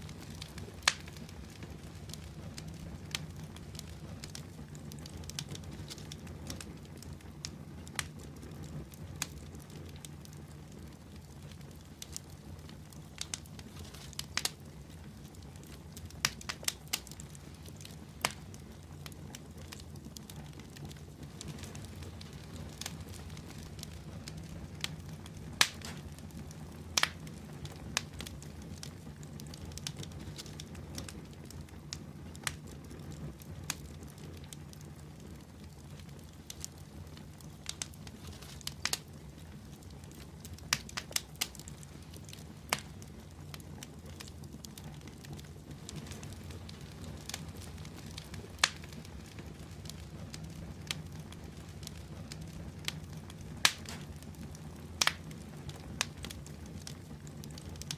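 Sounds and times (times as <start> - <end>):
fire crackling and popping: 0.0 - 57.9
low rumble of flame: 0.0 - 57.9.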